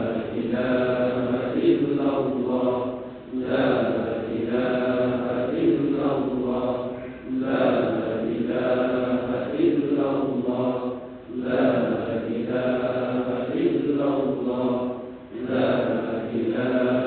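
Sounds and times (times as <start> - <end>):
man chanting over loudspeakers: 0.0 - 17.0.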